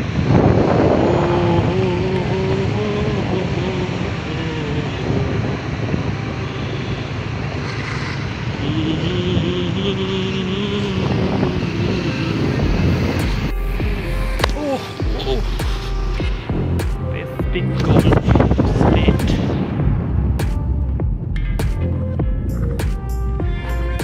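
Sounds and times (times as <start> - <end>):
scooter engine humming: 0.0 - 24.0
wind and road noise: 0.0 - 24.0.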